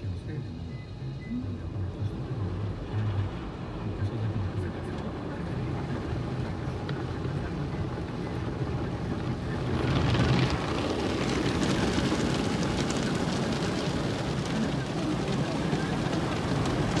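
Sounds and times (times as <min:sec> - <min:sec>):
car wash machine hum: 0:02.3 - 0:17.0.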